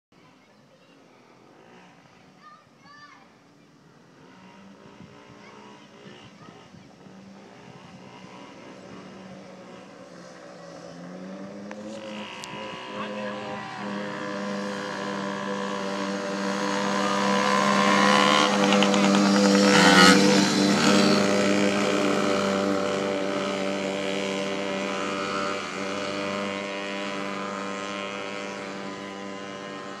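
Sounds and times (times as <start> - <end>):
minibike engines passing by: 0.2 - 30.0.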